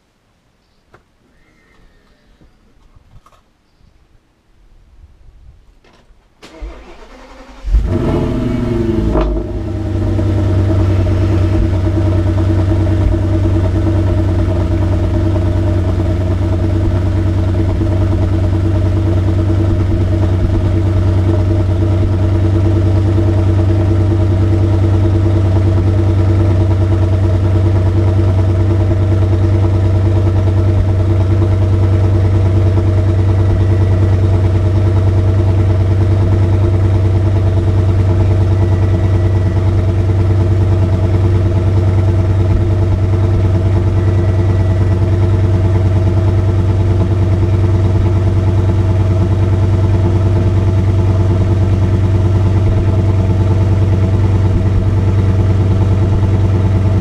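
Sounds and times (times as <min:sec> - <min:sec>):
car engine idling: 0:06.5 - 0:57.0.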